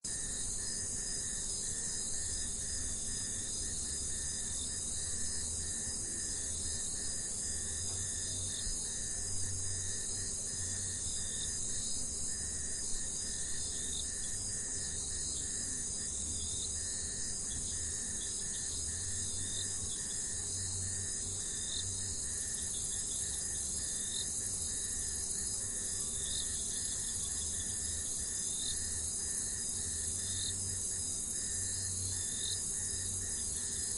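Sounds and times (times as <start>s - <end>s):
high-pitched insect chorus: 0.1s - 33.9s
pulsing insect trill: 0.1s - 33.9s.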